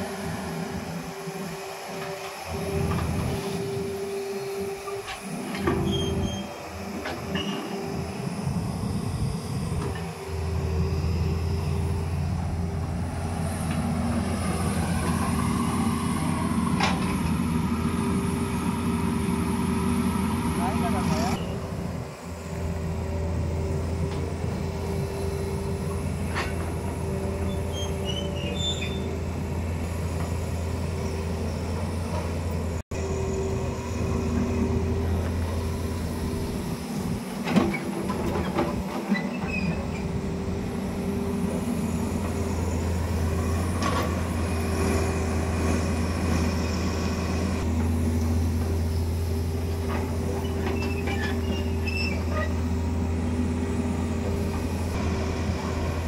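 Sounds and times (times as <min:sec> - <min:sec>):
excavator diesel engine drone: 0:00.0 - 0:56.0.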